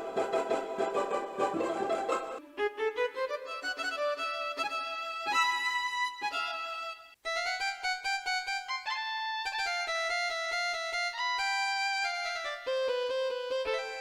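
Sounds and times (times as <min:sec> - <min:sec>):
keyboard playing a melody: 0:00.0 - 0:14.0.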